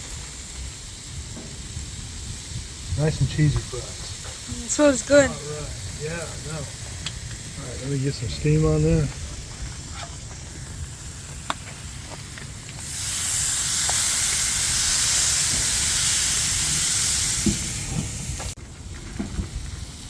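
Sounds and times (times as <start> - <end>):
loud high steam hiss: 0.0 - 20.0
soft sizzle on griddle: 0.0 - 20.0.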